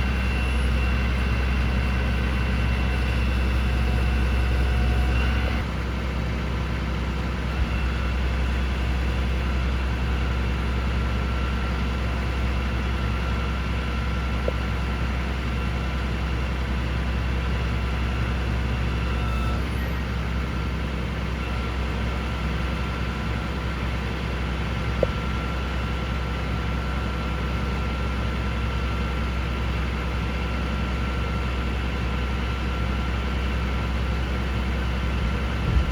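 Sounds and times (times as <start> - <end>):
diesel truck engine idling: 0.0 - 35.9.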